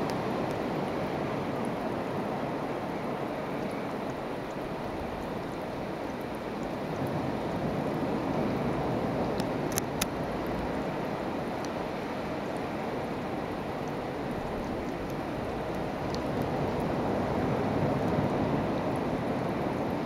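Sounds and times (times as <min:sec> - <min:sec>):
sea surf: 0:00.0 - 0:20.0
wind at the shore: 0:00.0 - 0:20.0.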